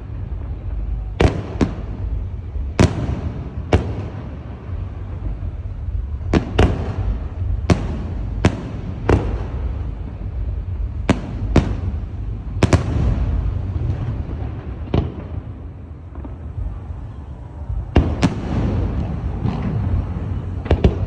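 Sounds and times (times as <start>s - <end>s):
fireworks bangs: 0.0s - 21.0s
low rumble: 0.0s - 21.0s.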